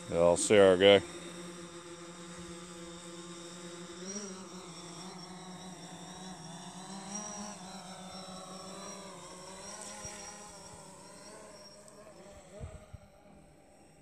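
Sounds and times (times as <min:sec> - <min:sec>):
quadcopter propellers humming: 0:00.0 - 0:14.0.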